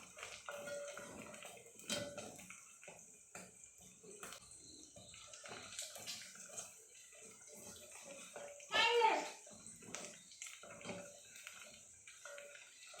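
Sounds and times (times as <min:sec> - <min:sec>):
running and splashing water: 0:00.0 - 0:13.0.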